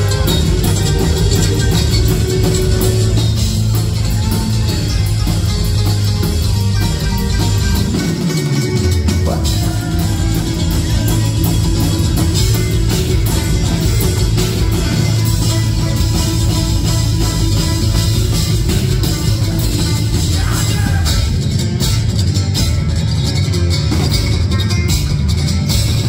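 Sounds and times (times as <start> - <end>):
banjo: 0.0 - 26.0
bass guitar: 0.0 - 26.0
electric guitar: 0.0 - 26.0.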